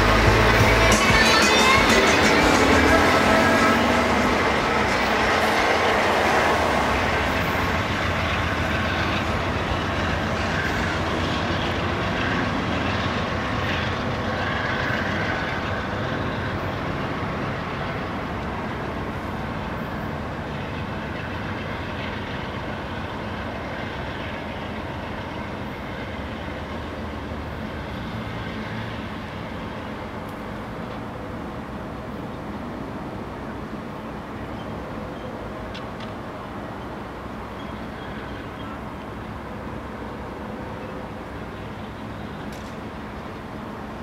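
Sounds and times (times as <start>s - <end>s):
freight train rolling on rails: 0.0s - 44.0s.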